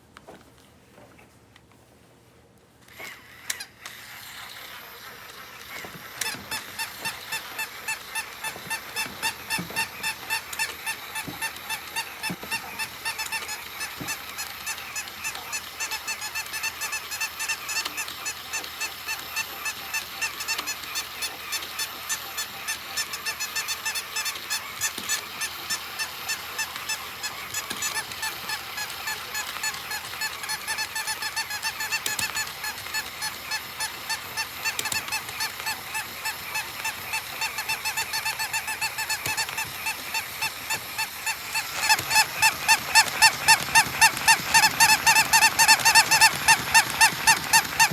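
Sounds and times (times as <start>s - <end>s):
toy honking squeaks: 3.1s - 47.9s.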